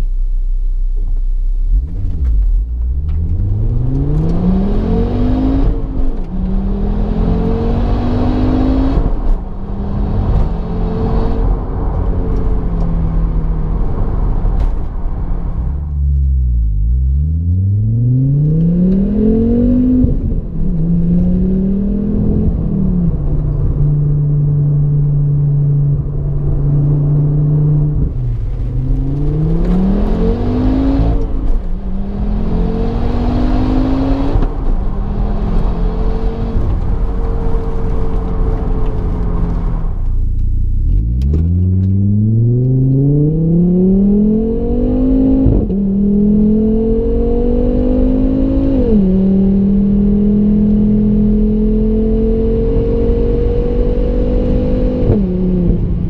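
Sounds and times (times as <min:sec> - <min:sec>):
car engine and exhaust accelerating: 0:00.0 - 0:56.0.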